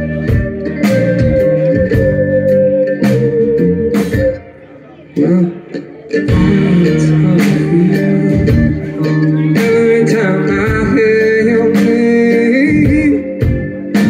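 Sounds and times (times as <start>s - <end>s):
live rock band playing: 0.0s - 14.0s
wavering lead melody: 0.0s - 14.0s.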